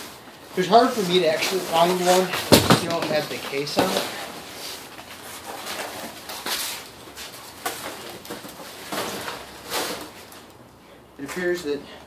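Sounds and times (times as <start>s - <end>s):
cardboard and paper rustling: 0.6s - 10.5s.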